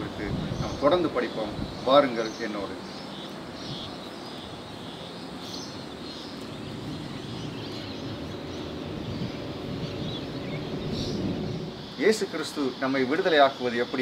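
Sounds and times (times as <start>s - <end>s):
birds chirping: 0.0s - 14.0s
steady background noise: 0.0s - 14.0s.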